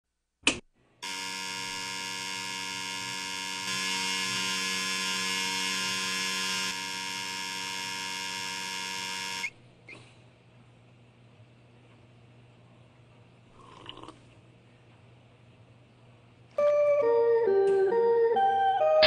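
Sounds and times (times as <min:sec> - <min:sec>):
light bulb mains hum: 0:01.0 - 0:18.5.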